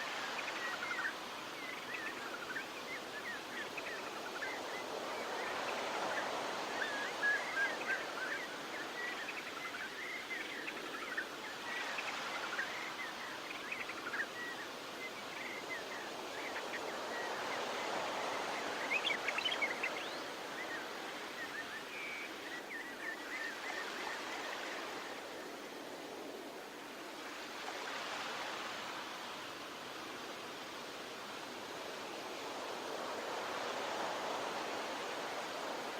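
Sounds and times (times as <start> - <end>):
surf washing in: 0.0 - 35.9.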